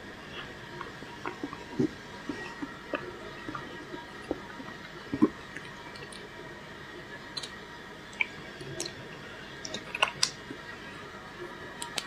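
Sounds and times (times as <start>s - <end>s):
small wet sounds: 0.3s - 11.0s.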